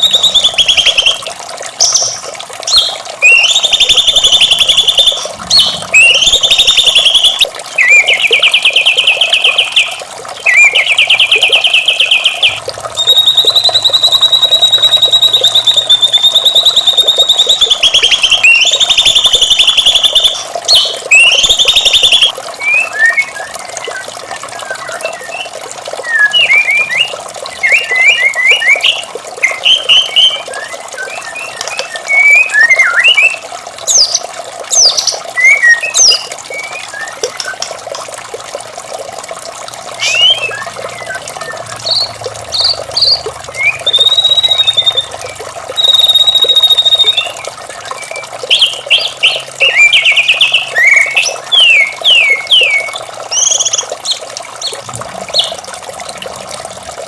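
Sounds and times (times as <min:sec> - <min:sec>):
running water: 0:00.0 - 0:57.0
bird singing varied song: 0:01.8 - 0:37.7, 0:40.0 - 0:55.6.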